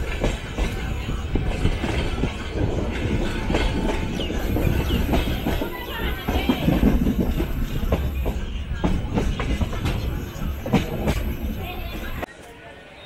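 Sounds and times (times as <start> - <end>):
train rumbling: 0.0 - 12.3
wheels clacking over rail joints: 0.0 - 12.3.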